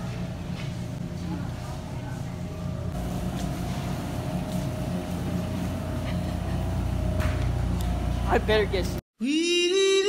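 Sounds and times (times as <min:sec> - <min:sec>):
ventilation hum: 0:00.0 - 0:09.0
refrigerated display cases humming: 0:00.0 - 0:10.0.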